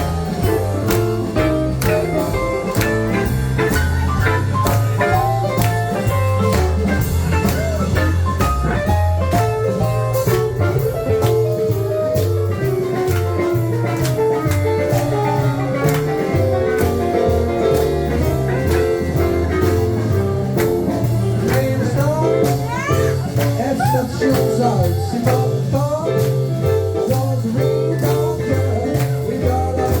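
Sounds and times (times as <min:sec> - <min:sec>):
live band instrumental: 0:00.0 - 0:30.0.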